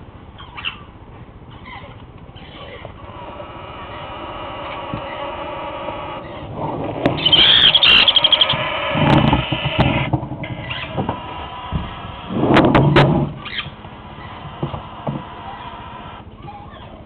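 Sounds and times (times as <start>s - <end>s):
parrot chicks begging calls: 0.4s - 17.0s.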